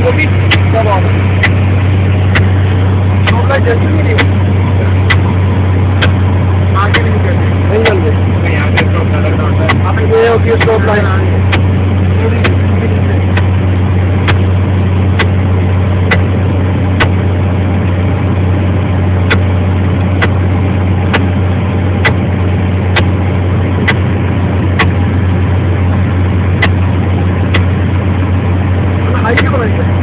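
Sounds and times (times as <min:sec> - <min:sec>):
sharp ticking: 0:00.0 - 0:17.3, 0:19.2 - 0:24.1, 0:24.7 - 0:27.8
airplane engine drone: 0:00.0 - 0:30.0.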